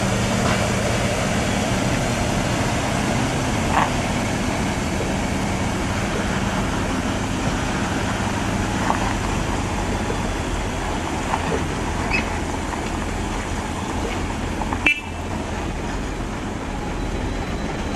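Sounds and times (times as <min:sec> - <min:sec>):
heavy vehicle engine running: 0:00.0 - 0:17.9
road traffic noise: 0:00.0 - 0:17.9.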